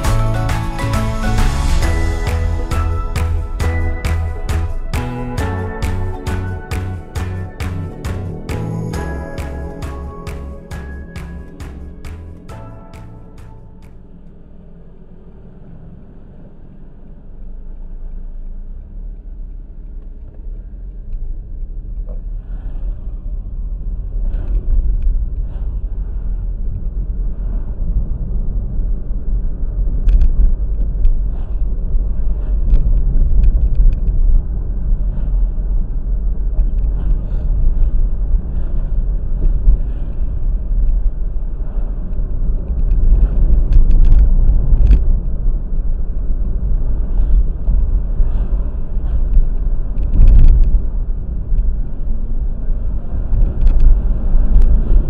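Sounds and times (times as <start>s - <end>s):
vehicle rumbling along a road: 0.0s - 55.0s.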